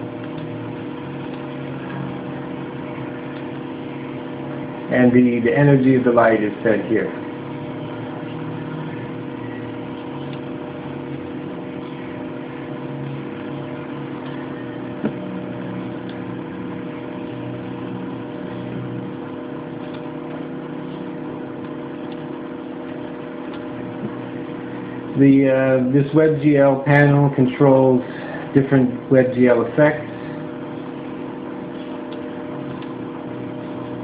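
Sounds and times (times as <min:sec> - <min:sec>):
background hum: 0:00.0 - 0:34.0.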